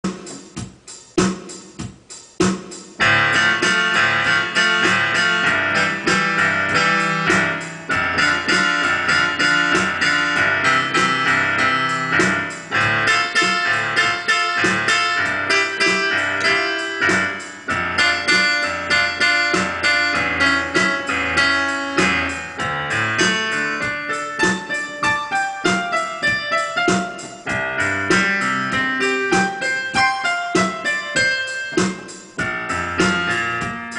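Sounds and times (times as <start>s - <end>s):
digital piano piece: 0.0s - 33.9s.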